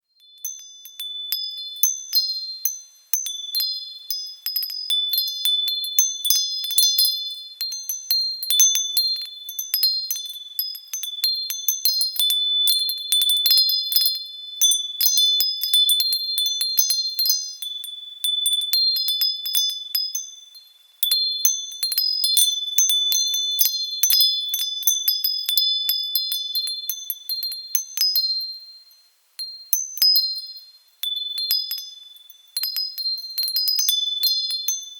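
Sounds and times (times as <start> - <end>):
wind chimes tinkling: 0.0 - 34.9.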